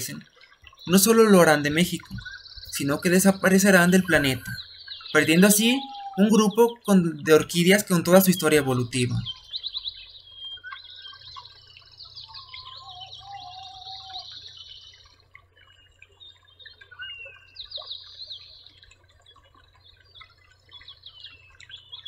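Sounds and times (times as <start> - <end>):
birds singing and calling: 0.0 - 22.0
high bird trills: 0.8 - 22.0
low whistled bird notes: 0.9 - 18.8.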